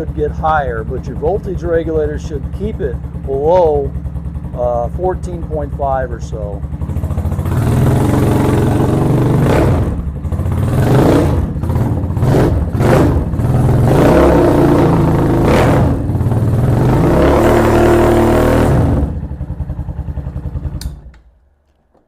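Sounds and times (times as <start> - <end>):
motorcycle engine revving: 0.0 - 21.2.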